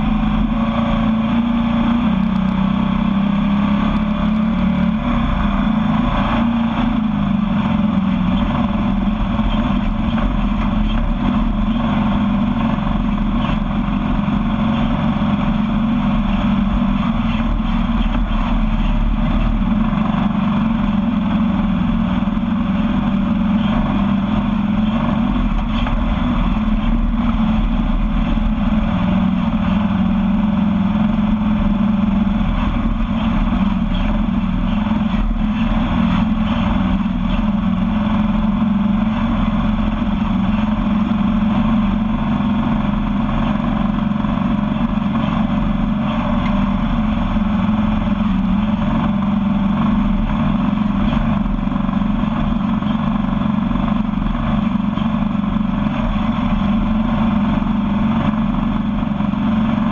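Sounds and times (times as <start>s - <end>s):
buggy engine running: 0.0s - 59.9s.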